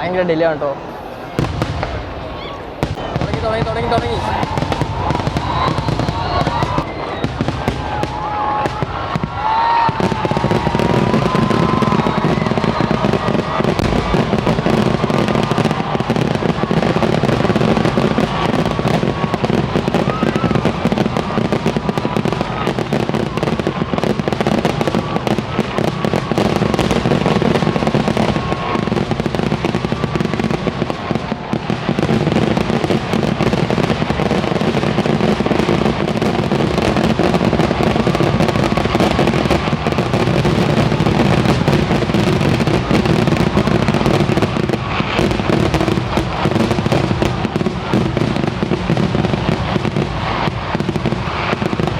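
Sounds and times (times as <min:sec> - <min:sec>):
rapid firework bangs: 0:00.0 - 0:51.9.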